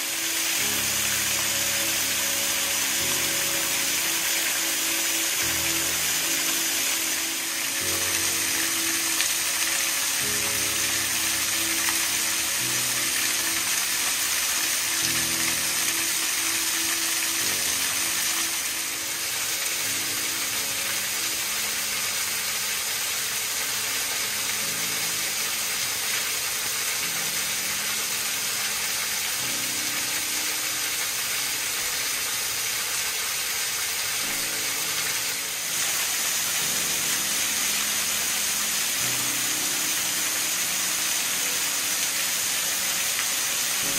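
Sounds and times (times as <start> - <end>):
slow music of held chords: 0.0 - 43.9
waterfall splashing onto rock: 0.0 - 43.9.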